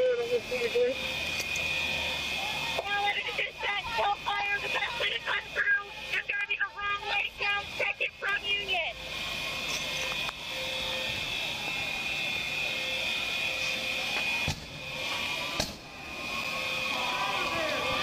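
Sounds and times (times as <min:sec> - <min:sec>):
high-pitched alarm tones: 0:00.0 - 0:18.0
rushing hum: 0:00.0 - 0:18.0.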